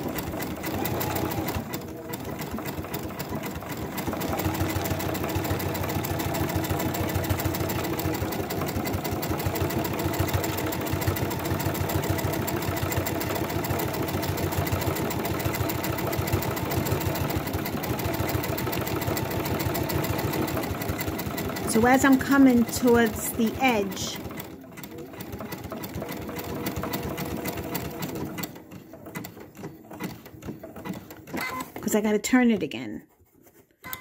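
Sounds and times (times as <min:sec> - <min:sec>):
sewing machine running: 0:00.0 - 0:31.8.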